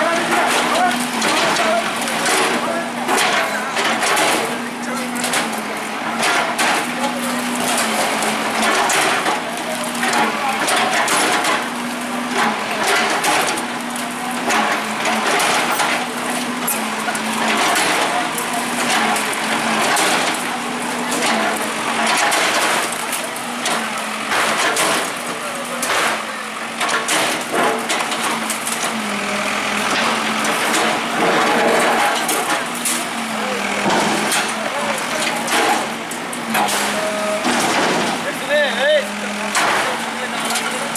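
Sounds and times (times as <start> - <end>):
bulldozer engine humming: 0.0 - 40.9
walls and debris crunching: 0.0 - 40.9.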